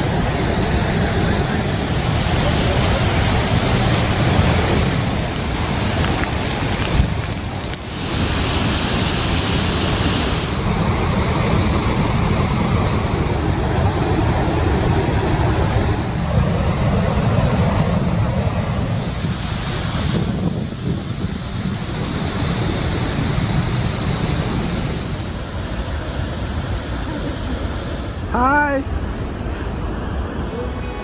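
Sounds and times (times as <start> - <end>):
waterfall rushing: 0.0 - 15.9, 21.6 - 31.0
wind buffeting microphone: 0.0 - 31.0.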